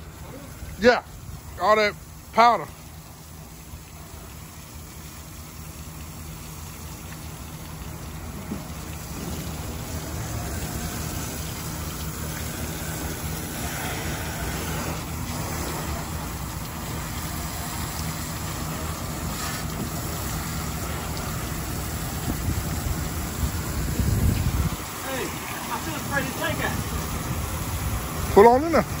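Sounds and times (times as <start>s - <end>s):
pressure washer spraying water: 0.0s - 29.0s.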